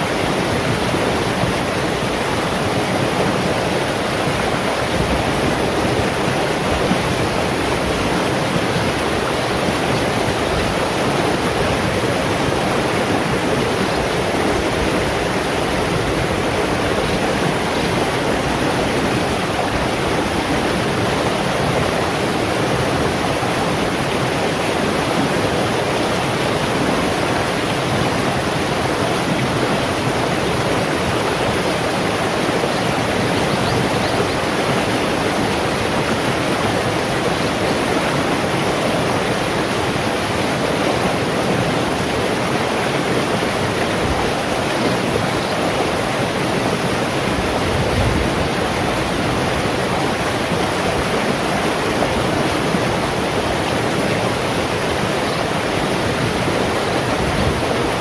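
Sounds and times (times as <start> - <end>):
stream rushing over stones: 0.0 - 58.0.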